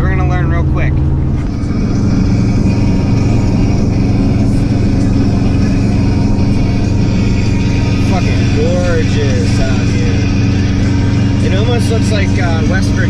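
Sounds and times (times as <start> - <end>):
engine and tyre drone: 0.0 - 13.0.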